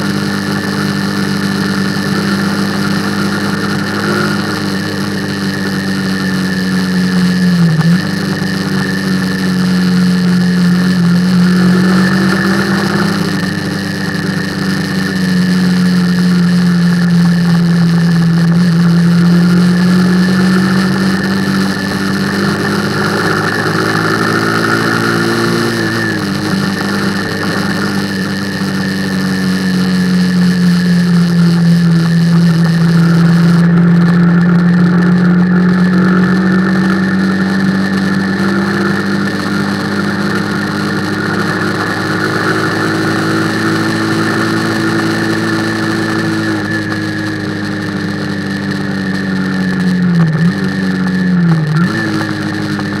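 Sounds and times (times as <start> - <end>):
motorcycle engine running: 0.0 - 53.0
road and wind noise: 0.0 - 53.0.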